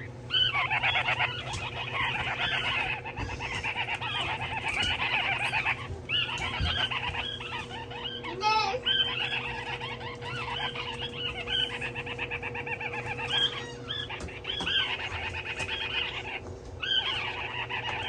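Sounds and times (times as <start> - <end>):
faint steady hum: 0.0 - 18.0
parrot chicks chirping: 0.0 - 18.0.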